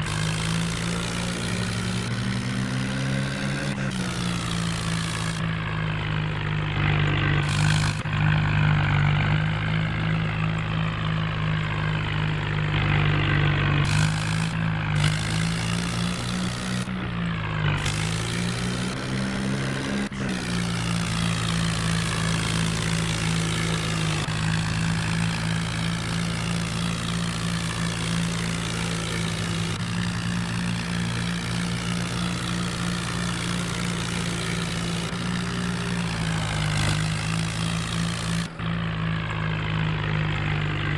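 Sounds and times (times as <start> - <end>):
engine humming: 0.0 - 40.9.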